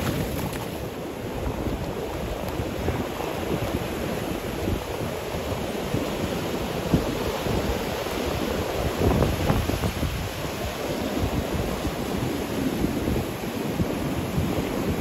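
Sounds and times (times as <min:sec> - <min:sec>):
ocean surf on rocky shore: 0:00.0 - 0:15.0
wind buffeting microphone: 0:00.0 - 0:15.0.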